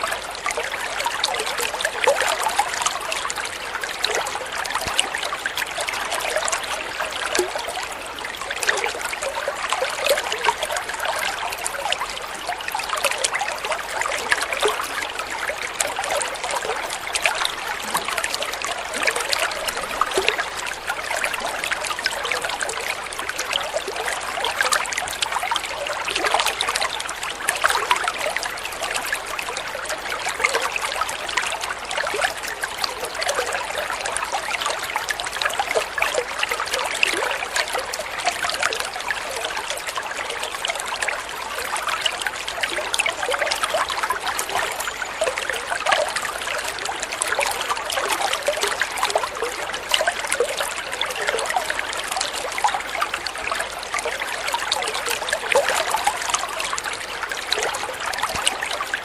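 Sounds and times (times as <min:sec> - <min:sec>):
water trickling and babbling: 0:00.0 - 0:59.0.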